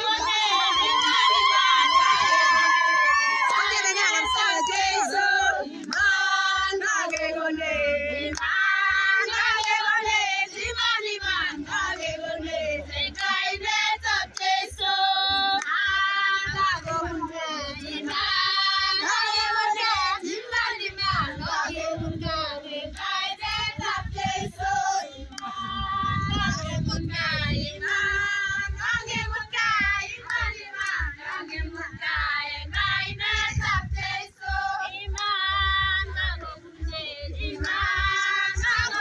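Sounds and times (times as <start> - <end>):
women singing together: 0.0 - 39.0.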